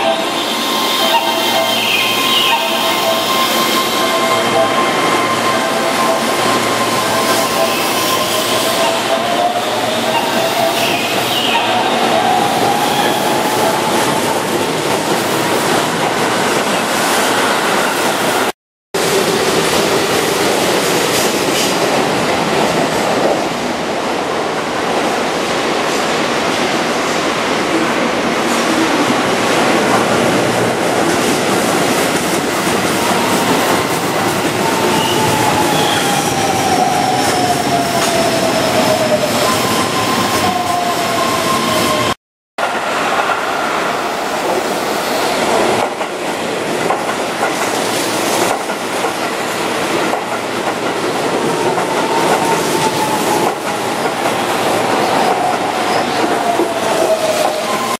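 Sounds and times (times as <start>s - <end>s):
train wheel and rail noise: 0.0s - 57.9s.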